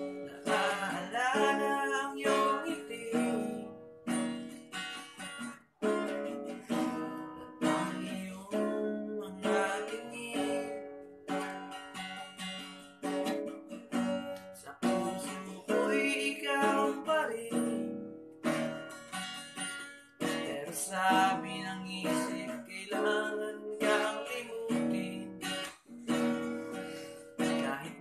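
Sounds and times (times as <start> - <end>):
acoustic guitar strummed chords: 0.0 - 28.0.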